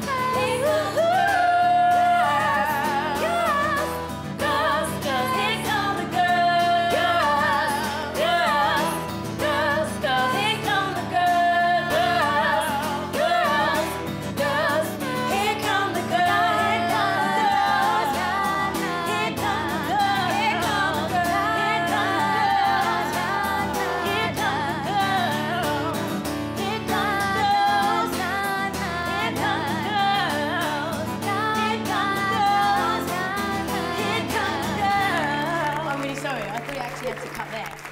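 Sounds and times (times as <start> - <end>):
female vocal group singing: 0.0 - 36.1
acoustic guitar: 0.0 - 37.9.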